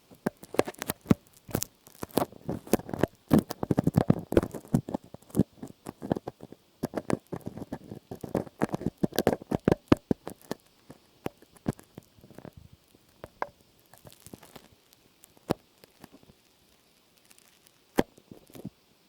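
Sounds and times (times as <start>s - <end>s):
clicks and crackles: 0.0s - 18.8s.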